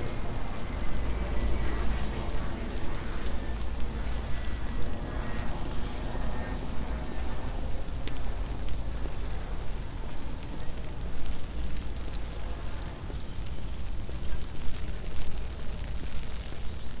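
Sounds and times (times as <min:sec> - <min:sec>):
traffic on wet pavement: 0:00.0 - 0:17.0.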